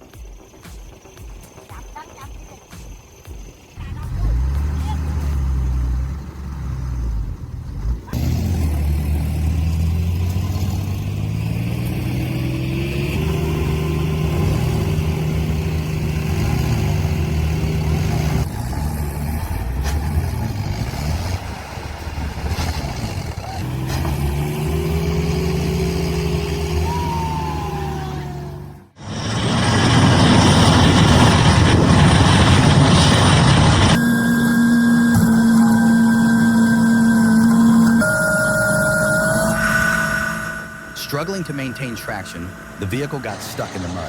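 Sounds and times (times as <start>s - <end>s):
diesel engine revving under load: 3.8s - 44.0s.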